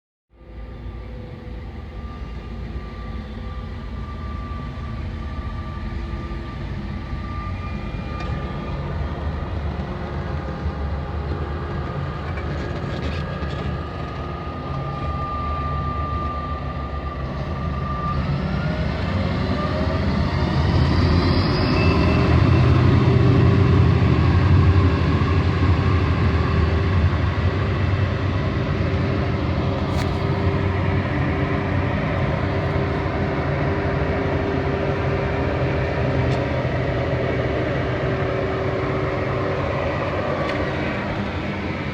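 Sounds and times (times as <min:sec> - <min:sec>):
combine harvester drone with whine: 0:00.3 - 0:41.9.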